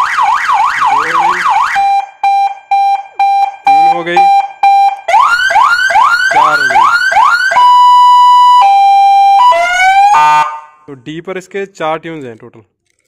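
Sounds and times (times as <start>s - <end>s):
rising siren whoops: 0.0s - 10.7s
electronic siren yelp: 0.0s - 10.8s.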